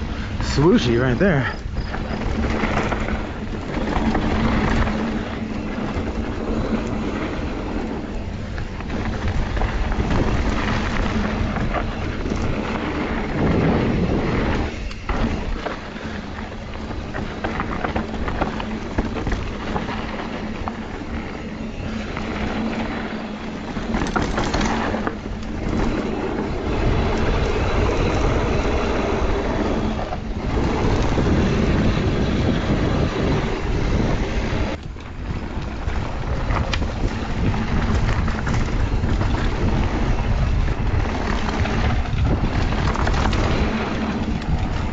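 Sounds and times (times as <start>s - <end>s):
tyres rumbling over dirt trail: 0.0s - 44.9s
wind rushing over microphone: 0.0s - 44.9s.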